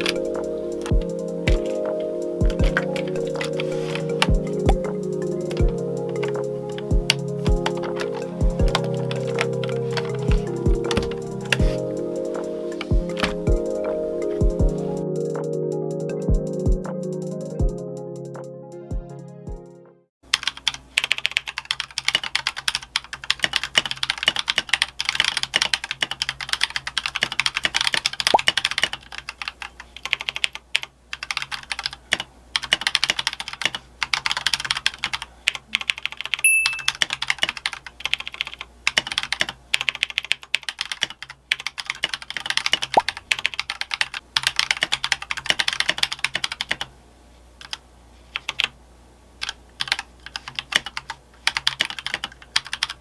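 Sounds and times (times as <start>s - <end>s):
mechanical keyboard typing: 0.0s - 15.0s, 20.3s - 46.9s, 49.4s - 53.0s.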